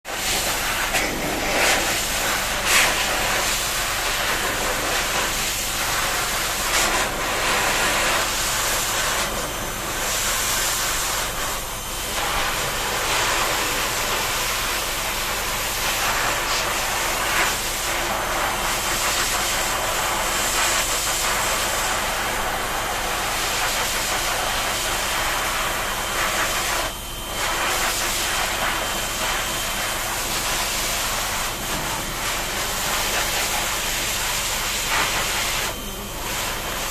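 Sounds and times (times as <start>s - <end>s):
shower spraying water: 0.1s - 36.9s.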